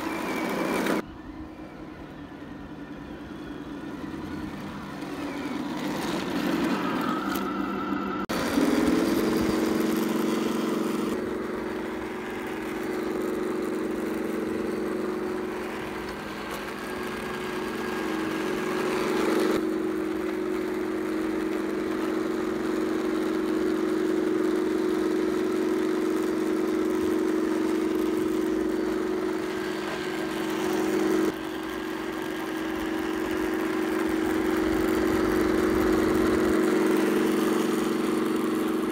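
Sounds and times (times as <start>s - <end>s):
simulated tank engine drone: 0.0s - 38.9s.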